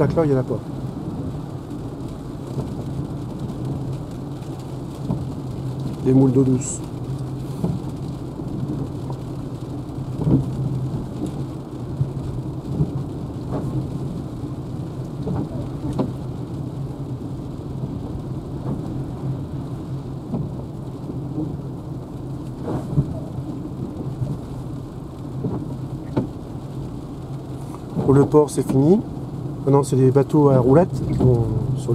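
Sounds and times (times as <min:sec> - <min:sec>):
faint ticks of raindrops: 0:00.0 - 0:31.9
low hum of moving car: 0:00.0 - 0:31.9
rain falling on a car: 0:00.0 - 0:31.9.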